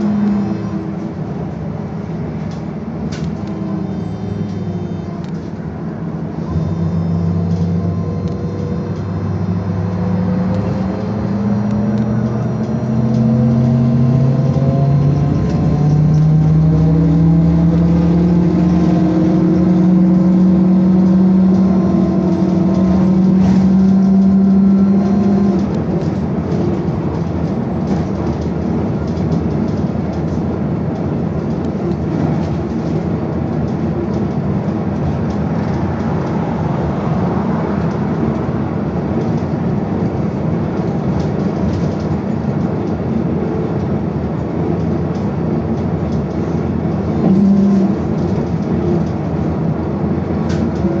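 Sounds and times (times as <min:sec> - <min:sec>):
road and rolling noise: 0:00.0 - 0:51.0.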